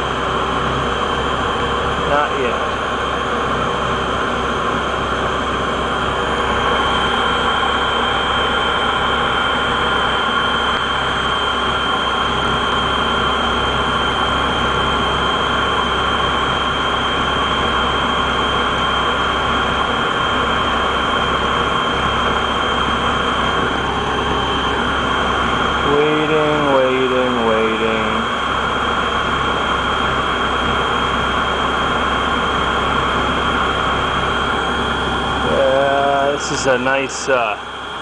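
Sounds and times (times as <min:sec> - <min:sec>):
boiler burner running: 0:00.0 - 0:38.0
steady high whine: 0:00.0 - 0:38.0.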